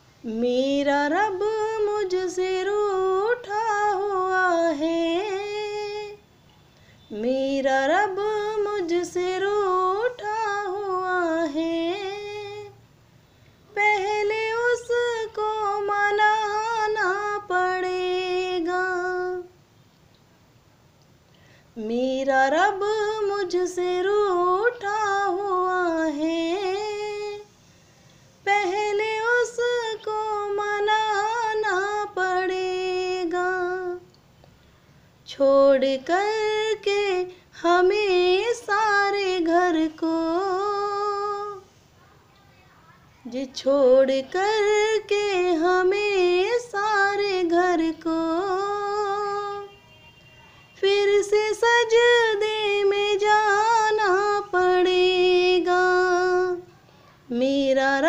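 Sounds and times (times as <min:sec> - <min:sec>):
woman singing: 0:00.2 - 0:06.2, 0:07.1 - 0:12.8, 0:13.7 - 0:19.6, 0:21.8 - 0:27.5, 0:28.4 - 0:34.2, 0:35.2 - 0:41.7, 0:43.2 - 0:49.8, 0:50.8 - 0:58.0.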